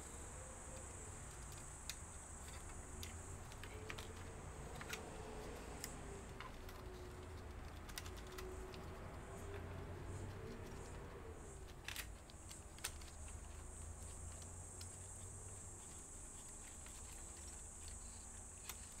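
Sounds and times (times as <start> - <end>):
small parts clicking and tapping: 0.6 - 19.0.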